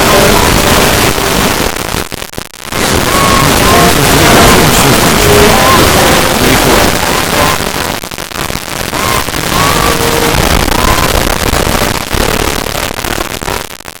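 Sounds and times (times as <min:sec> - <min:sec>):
loud rushing and crackling noise: 0:00.0 - 0:14.0.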